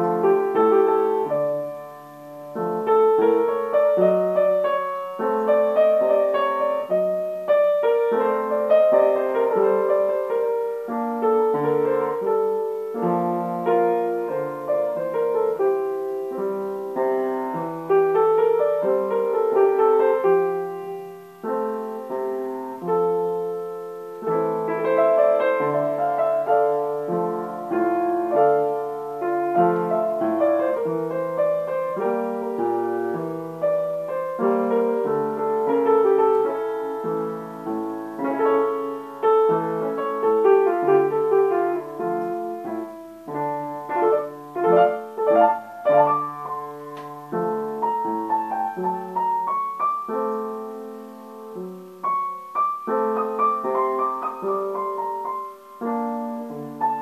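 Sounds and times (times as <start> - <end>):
upright piano playing chords: 0.0 - 57.0.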